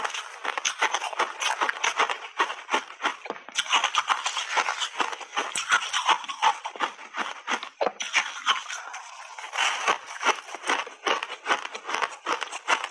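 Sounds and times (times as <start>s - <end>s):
ice crunching between teeth: 0.0s - 12.9s.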